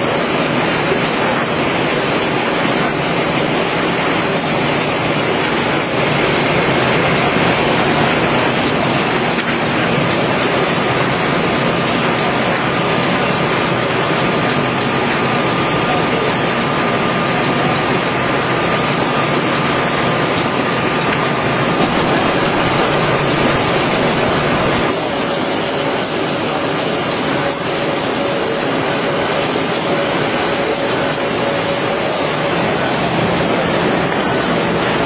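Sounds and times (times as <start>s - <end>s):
machine clatter and whir: 0.0s - 35.0s.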